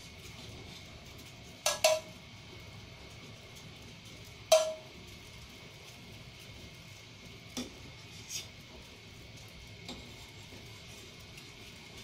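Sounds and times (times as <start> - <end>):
simmering pot hiss: 0.0 - 12.0.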